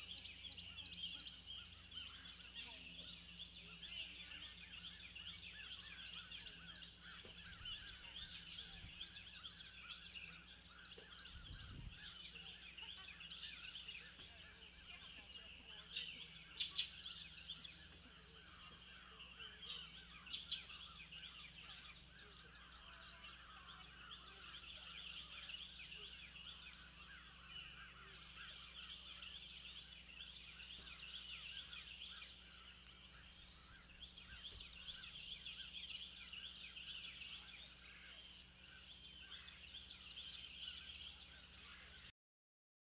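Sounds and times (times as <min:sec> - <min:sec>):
many birds chattering: 0:00.0 - 0:42.1.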